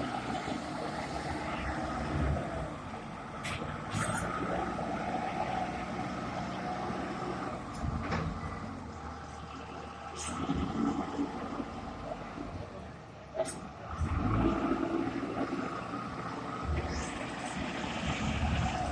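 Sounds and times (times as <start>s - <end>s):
diesel engine running under load: 0.0s - 18.9s.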